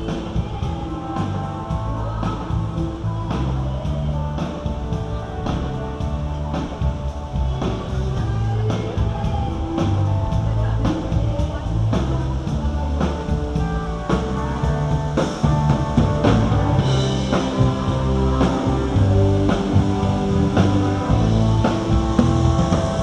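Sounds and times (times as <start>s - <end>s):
instrumental rock band playing: 0.0s - 23.0s.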